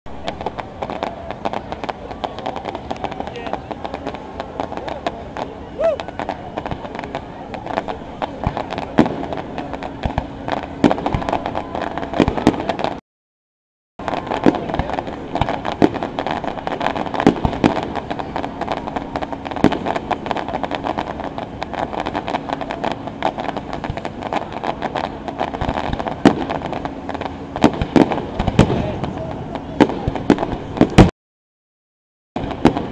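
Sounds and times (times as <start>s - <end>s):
fireworks bangs and pops: 0.1s - 13.0s, 14.0s - 31.1s, 32.4s - 32.9s.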